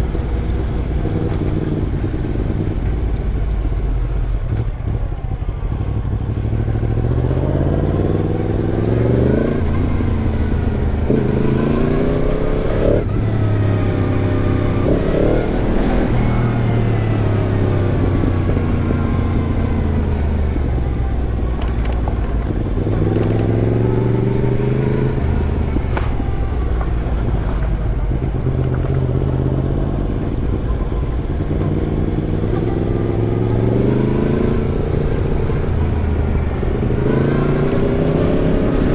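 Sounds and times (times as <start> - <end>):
motorcycle accelerating through gears: 0.0 - 38.9
wind and road noise: 0.0 - 38.9.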